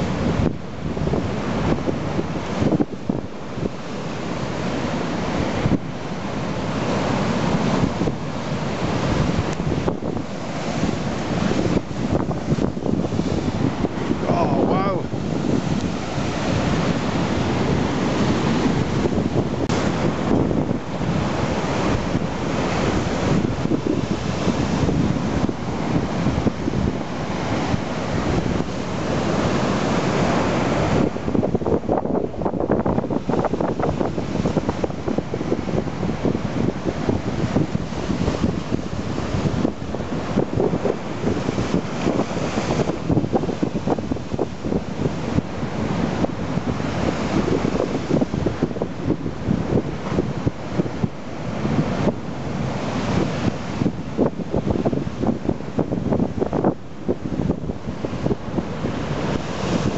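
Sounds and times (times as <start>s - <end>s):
waves breaking against a wall: 0.0s - 59.9s
wind buffeting the microphone: 0.0s - 59.9s.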